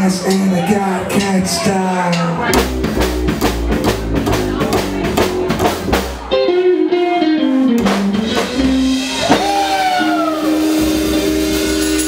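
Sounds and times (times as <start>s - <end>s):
live band playing: 0.0s - 12.0s
drumbeat: 1.0s - 6.4s, 7.7s - 12.0s.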